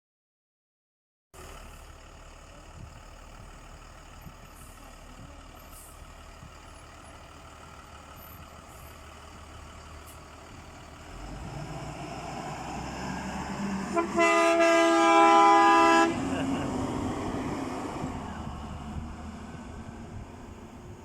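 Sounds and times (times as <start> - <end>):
diesel bus engine idling: 1.4 - 21.0.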